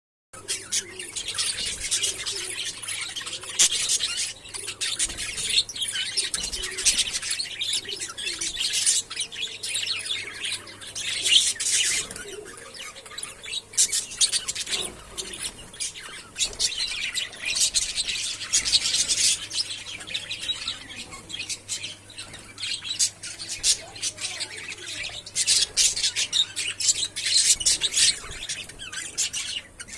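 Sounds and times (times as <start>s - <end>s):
budgerigars chattering: 0.4s - 29.9s.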